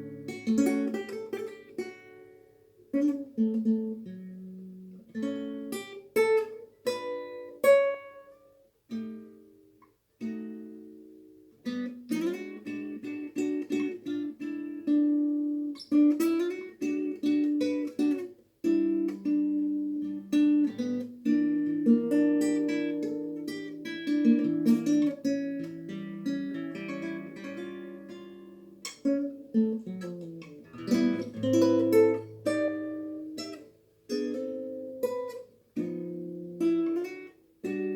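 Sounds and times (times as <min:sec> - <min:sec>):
acoustic guitar fingerpicking: 0:00.0 - 0:37.9.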